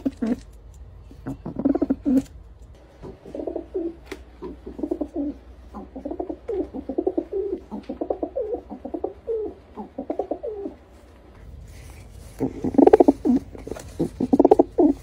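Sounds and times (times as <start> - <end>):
pigeons cooing: 0.0 - 11.0, 12.2 - 15.0.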